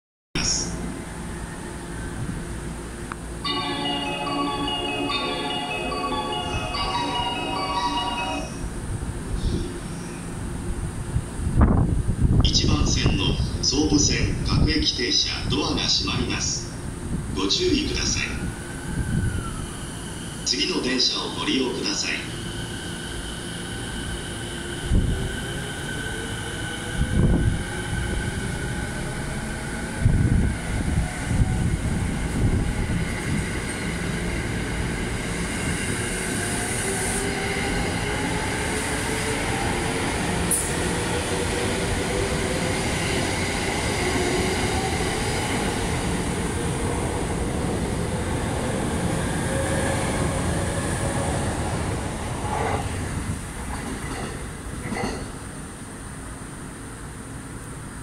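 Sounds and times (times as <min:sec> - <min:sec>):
wheels rumbling on rail: 0:00.4 - 0:20.5, 0:21.6 - 0:58.0.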